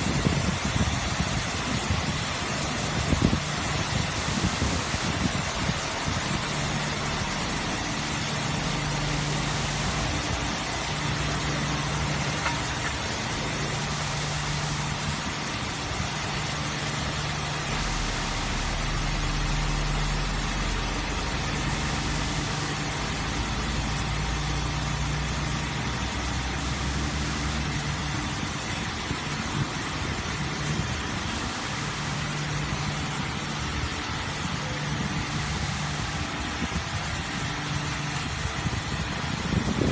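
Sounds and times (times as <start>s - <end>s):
diesel truck engine running: 0.0s - 39.9s
high-pressure water spray hiss: 0.0s - 39.9s.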